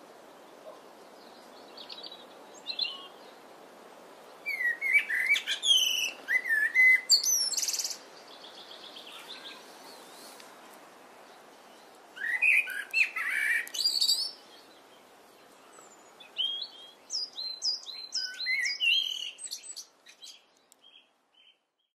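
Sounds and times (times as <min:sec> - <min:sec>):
faint steady hiss: 0:00.0 - 0:21.9
blackbird singing: 0:00.6 - 0:03.3, 0:04.4 - 0:10.4, 0:11.7 - 0:15.0, 0:15.6 - 0:21.6.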